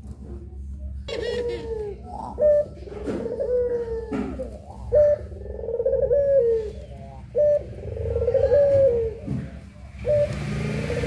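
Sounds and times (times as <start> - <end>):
dove cooing: 1.1 - 11.0.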